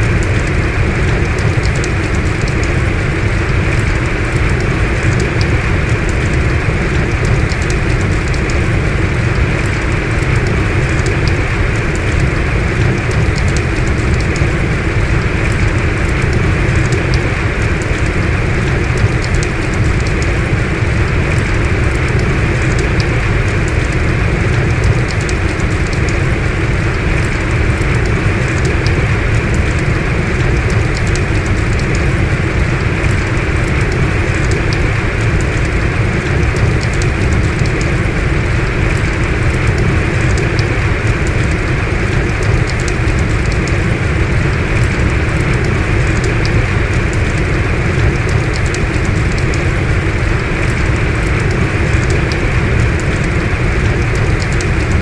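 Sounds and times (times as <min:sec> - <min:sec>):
heavy rain: 0:00.0 - 0:55.0
raindrop ticks: 0:00.0 - 0:55.0.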